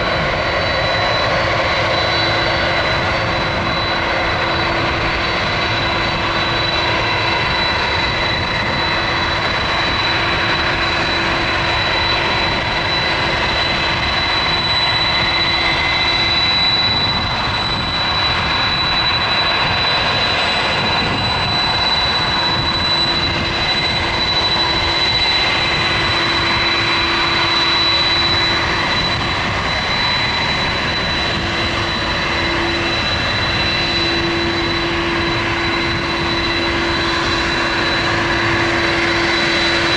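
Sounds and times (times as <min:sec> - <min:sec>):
high steady jet whine: 0:00.0 - 0:39.9
jet engines rushing: 0:00.0 - 0:39.9.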